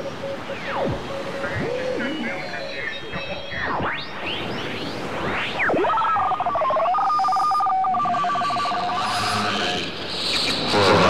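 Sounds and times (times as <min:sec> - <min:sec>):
radio sweeping whistles: 0:00.0 - 0:11.0
two steady radio tones fluttering: 0:00.0 - 0:11.0.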